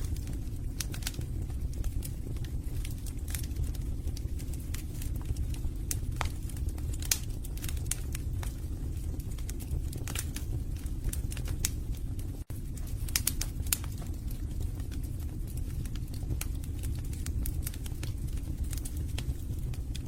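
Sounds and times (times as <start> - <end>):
burning logs crackling and popping: 0.0 - 20.0
fire rumbling: 0.0 - 20.0.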